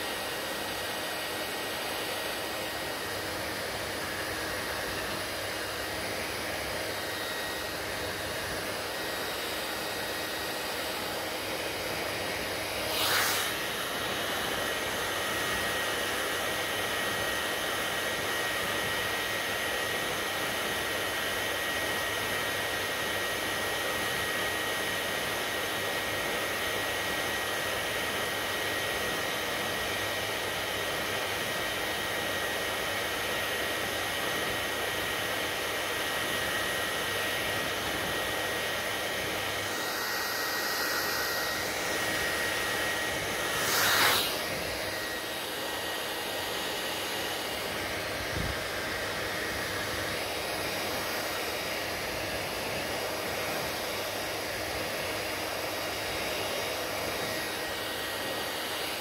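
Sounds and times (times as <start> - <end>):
hair dryer blowing with whine: 0.0 - 59.0.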